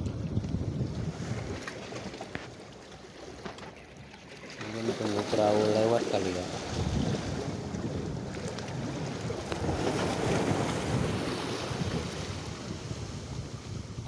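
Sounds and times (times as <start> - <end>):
wind buffeting microphone: 0.0 - 2.6, 3.4 - 14.0
sea water splashing against rocks: 0.0 - 14.0.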